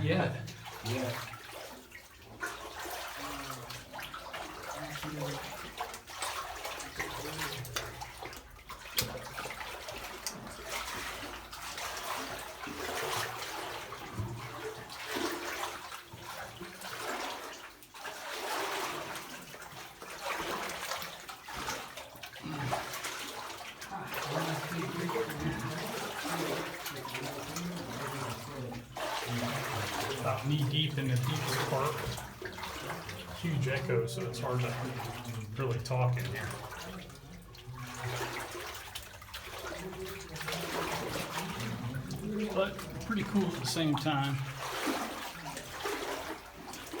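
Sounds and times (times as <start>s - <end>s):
people wading through water: 0.0s - 47.0s
water sloshing and splashing: 0.0s - 47.0s.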